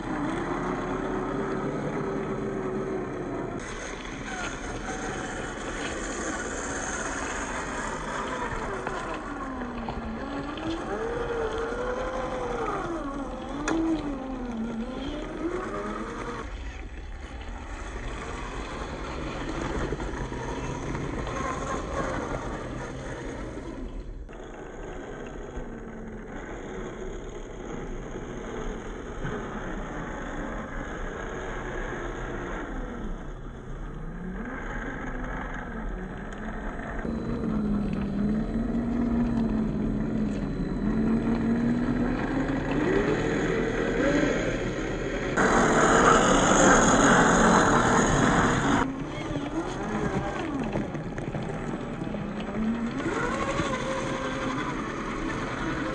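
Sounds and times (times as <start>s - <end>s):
electric motor whining: 0.0s - 55.9s.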